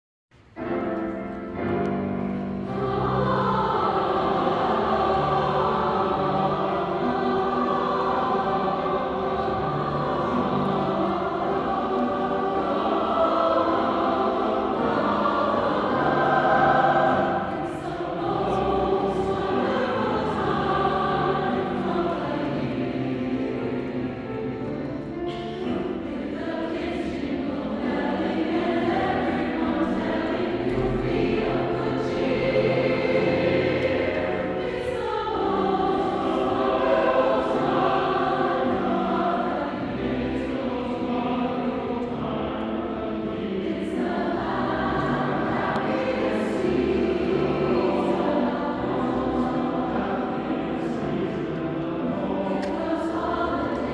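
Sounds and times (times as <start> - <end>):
choir singing: 0.6 - 53.9.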